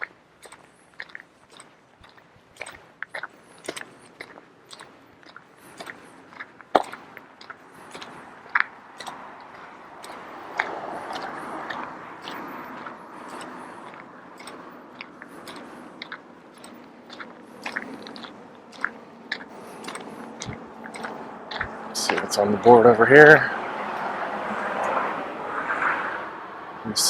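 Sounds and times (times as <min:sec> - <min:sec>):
steady outdoor hiss: 0:00.0 - 0:27.0.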